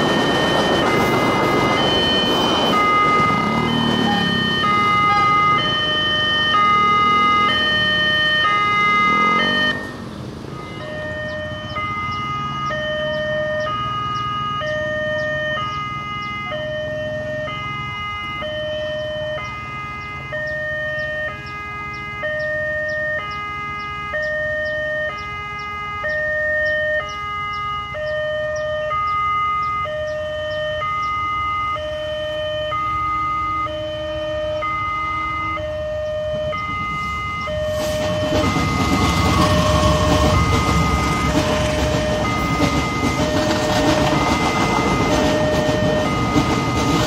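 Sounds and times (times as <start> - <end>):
two-tone level crossing alarm: 0.0 - 47.0.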